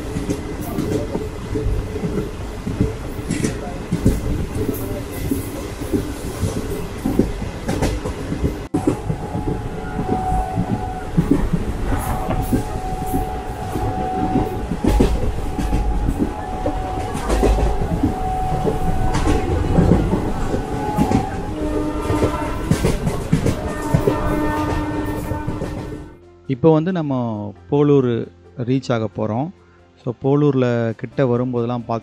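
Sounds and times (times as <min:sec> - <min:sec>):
wheels clacking over rail joints: 0:00.0 - 0:26.1
train rumble: 0:00.0 - 0:26.2.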